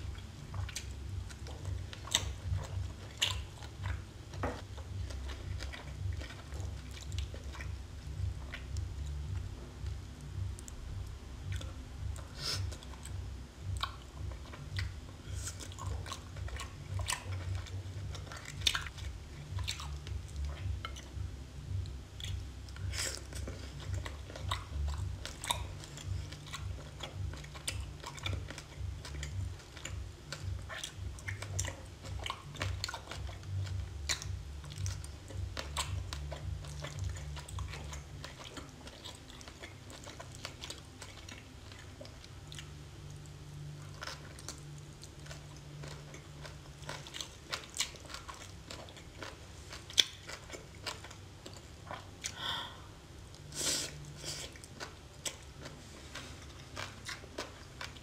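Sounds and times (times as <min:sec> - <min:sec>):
chewing raw seafood: 0:00.0 - 0:58.0.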